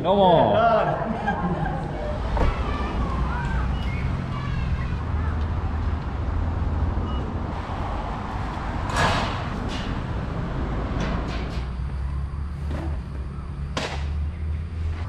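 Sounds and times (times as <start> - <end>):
road traffic: 1.0 - 15.0.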